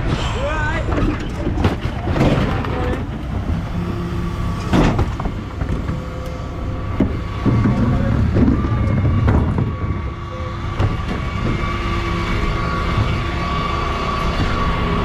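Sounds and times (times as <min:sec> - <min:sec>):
refuse truck engine rumbling: 0:00.0 - 0:15.0
wheelie bins clattering: 0:00.0 - 0:15.0.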